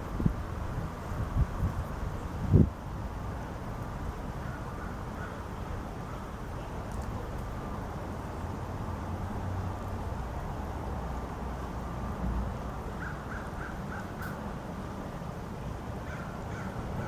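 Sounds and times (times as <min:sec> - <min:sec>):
wind: 0:00.0 - 0:17.0
distant traffic: 0:03.2 - 0:17.0.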